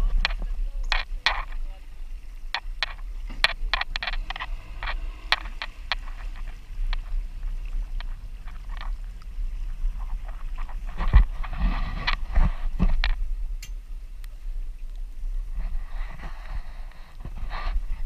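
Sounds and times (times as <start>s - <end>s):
wind and boat rumble: 0.0s - 18.0s.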